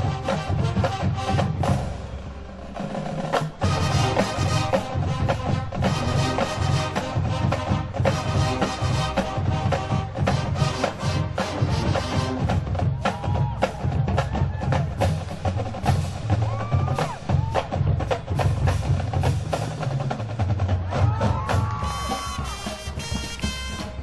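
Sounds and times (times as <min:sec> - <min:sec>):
bass drums: 0:00.0 - 0:24.0
marching percussion playing: 0:00.0 - 0:24.0.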